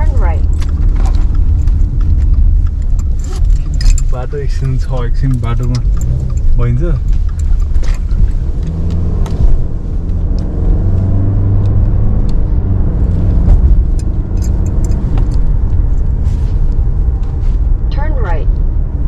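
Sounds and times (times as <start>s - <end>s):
car engine and road rumble: 0.0s - 19.0s
light clicks and rattles: 0.2s - 12.4s, 13.4s - 17.4s.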